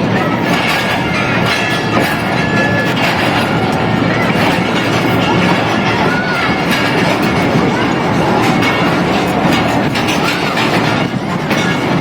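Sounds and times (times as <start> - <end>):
passenger train rumbling on rails: 0.0 - 12.0.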